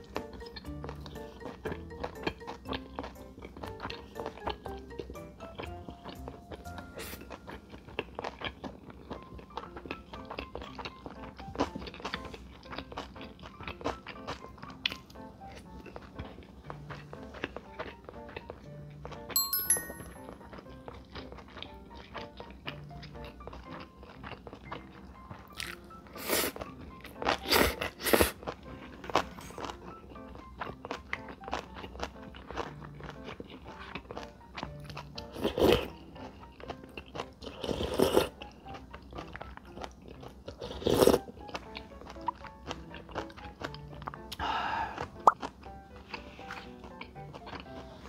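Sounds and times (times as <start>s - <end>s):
crunchy chewing: 0.0s - 19.3s, 20.3s - 48.0s
background music melody: 0.0s - 48.0s.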